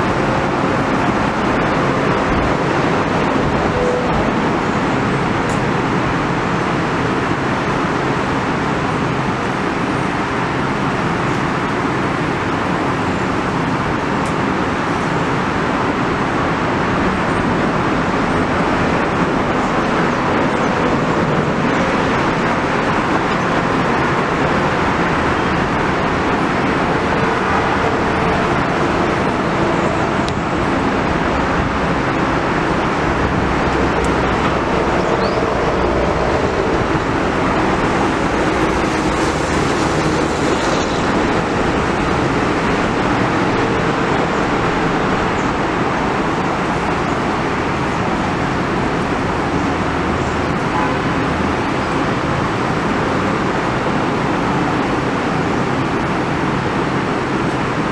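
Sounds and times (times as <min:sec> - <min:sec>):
train rumbling slowly: 0:00.0 - 0:57.9.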